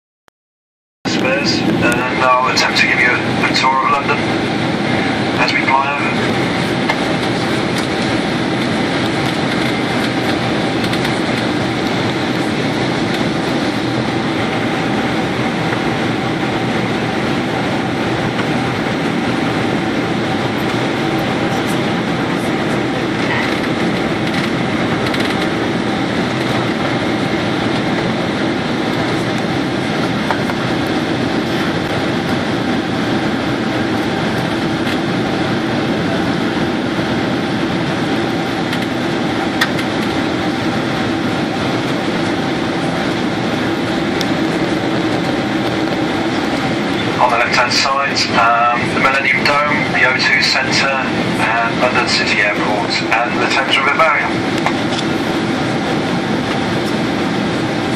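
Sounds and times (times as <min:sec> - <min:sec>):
airplane cabin engine and airflow drone: 0:01.1 - 0:57.9.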